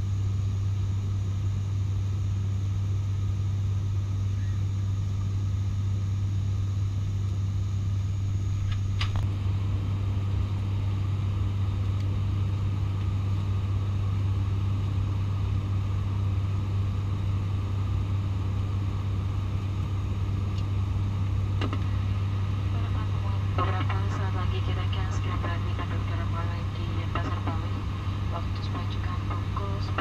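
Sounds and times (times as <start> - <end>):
turboprop cabin drone: 0.0 - 30.0.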